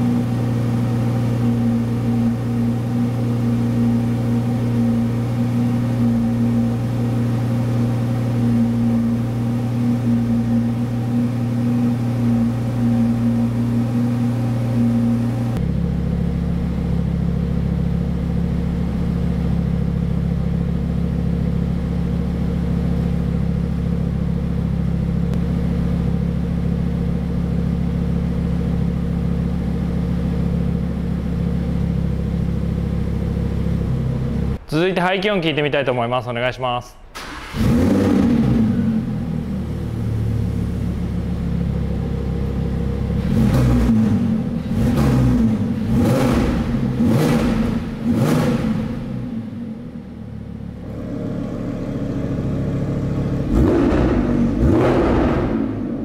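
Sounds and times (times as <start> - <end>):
sports car engine idling: 0.0 - 34.7, 37.0 - 56.0.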